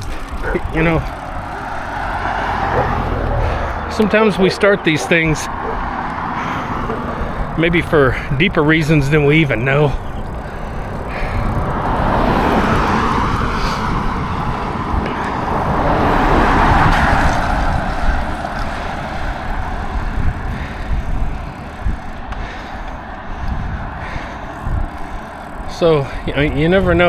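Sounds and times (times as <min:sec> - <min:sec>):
car passing: 0:00.0 - 0:27.0
wind buffeting microphone: 0:00.0 - 0:27.0.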